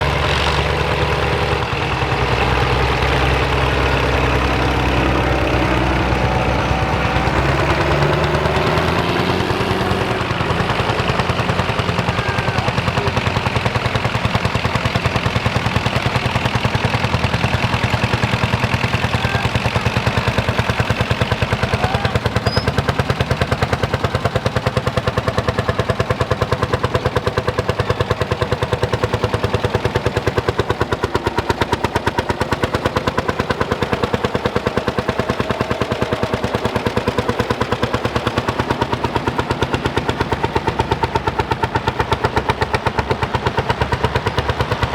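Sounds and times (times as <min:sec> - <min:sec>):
another engine rising and falling: 0:00.0 - 0:44.9
tractor engine thumping: 0:00.0 - 0:44.9.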